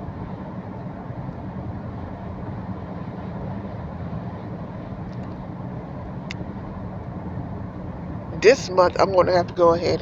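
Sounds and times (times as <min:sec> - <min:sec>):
moving vehicle rumble: 0:00.0 - 0:10.0.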